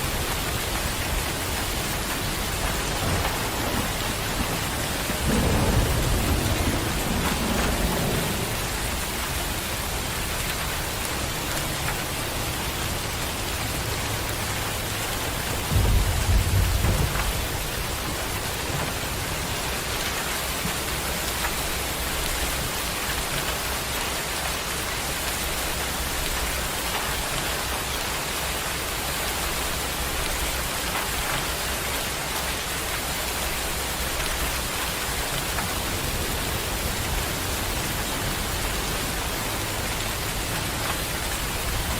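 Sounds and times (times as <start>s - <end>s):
low rumble of thunder: 0.0s - 23.8s, 29.4s - 41.9s
steady rain falling: 0.0s - 41.9s.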